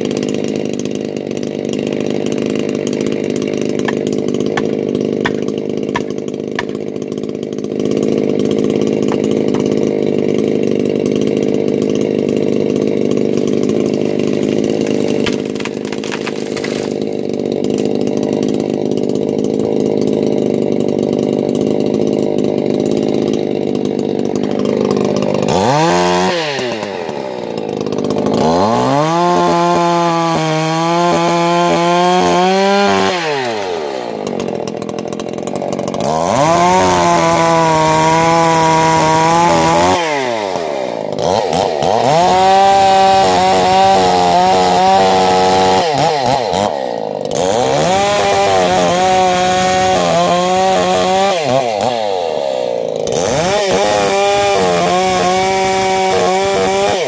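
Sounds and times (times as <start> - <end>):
chainsaw cutting wood: 0.0 - 57.0
chainsaw revving: 0.0 - 57.0.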